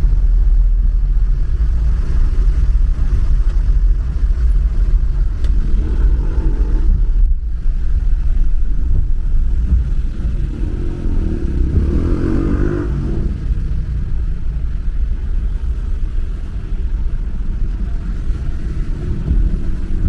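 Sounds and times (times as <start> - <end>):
car road noise rumble: 0.0 - 20.0.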